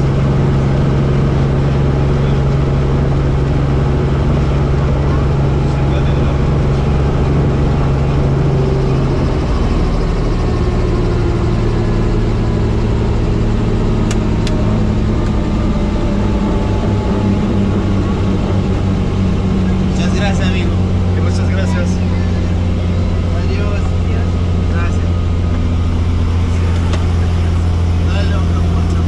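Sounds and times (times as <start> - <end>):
helicopter engine and rotor drone: 0.0 - 29.0.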